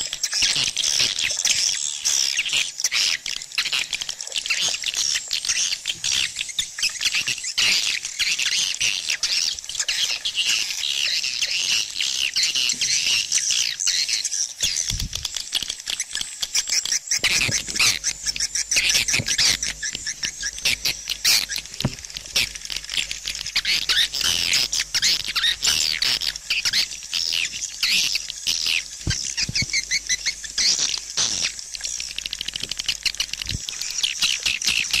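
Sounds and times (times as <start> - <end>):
swiftlets twittering and clicking: 0.0 - 35.0.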